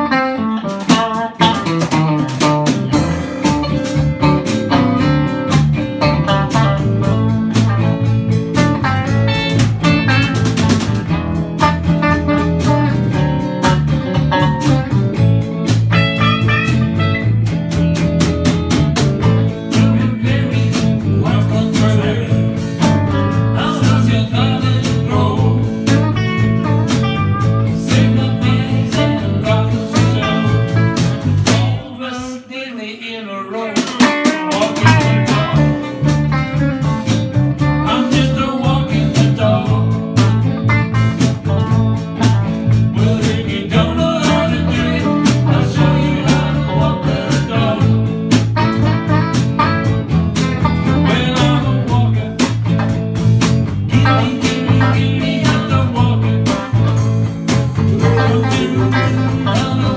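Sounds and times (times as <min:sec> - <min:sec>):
drum kit beat: 0:00.0 - 0:32.0, 0:33.7 - 0:59.9
electric guitars: 0:00.0 - 0:32.1, 0:33.8 - 0:59.9.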